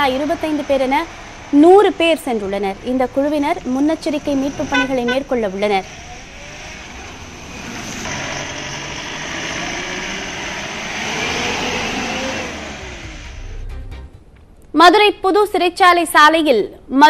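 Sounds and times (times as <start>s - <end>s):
heavy vehicle engine accelerating: 0.0s - 14.3s
road noise: 0.0s - 14.8s.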